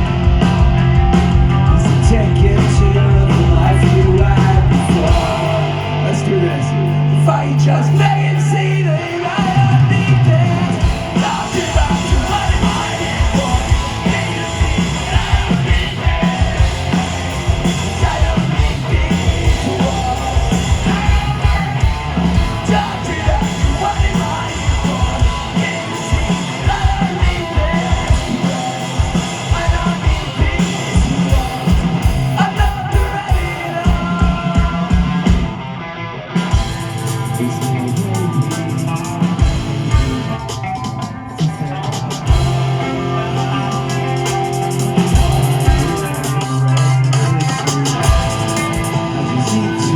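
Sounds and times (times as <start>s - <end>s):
hard-hit drums: 0.0s - 35.8s, 36.4s - 49.9s
live rock band playing: 0.0s - 49.9s.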